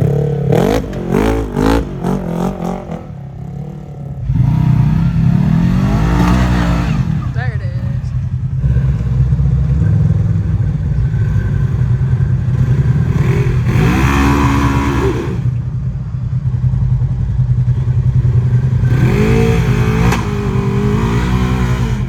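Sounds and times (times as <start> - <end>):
utility vehicle engine revving: 0.0 - 22.0.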